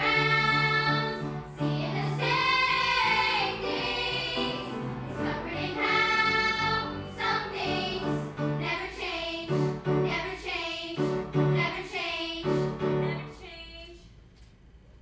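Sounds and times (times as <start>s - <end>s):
children singing together: 0.0s - 12.6s
piano accompaniment: 0.0s - 13.4s.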